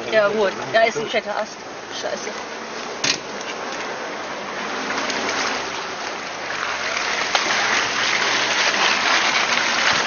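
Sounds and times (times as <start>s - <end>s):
branches scraping along vehicle: 0.0s - 10.0s.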